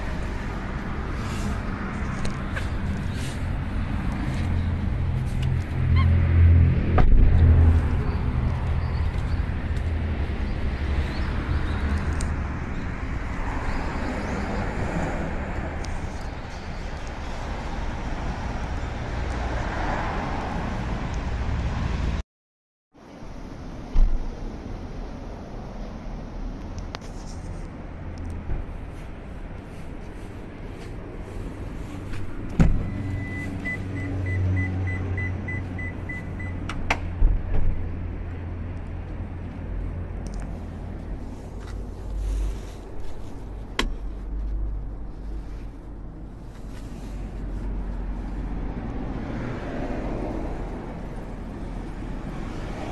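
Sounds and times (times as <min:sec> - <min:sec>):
traffic noise: 0:00.0 - 0:22.2, 0:23.0 - 0:52.9
vehicle engine hum: 0:00.0 - 0:22.2, 0:23.0 - 0:52.9.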